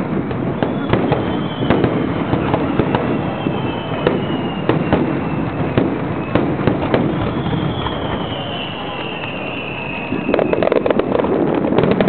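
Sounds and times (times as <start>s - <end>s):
fireworks bangs and crackles: 0.0s - 12.0s
rumble of fireworks bursts: 0.0s - 12.0s.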